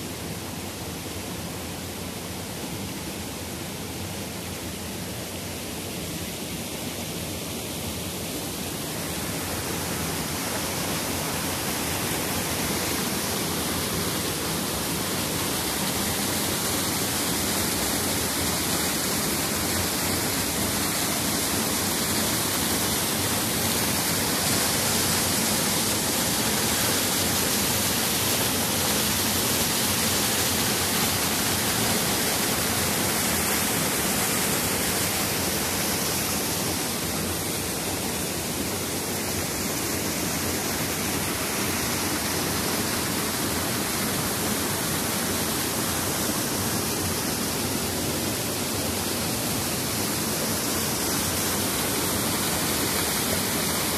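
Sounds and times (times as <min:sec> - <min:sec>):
waterfall pouring over rocks: 0:00.0 - 0:53.9.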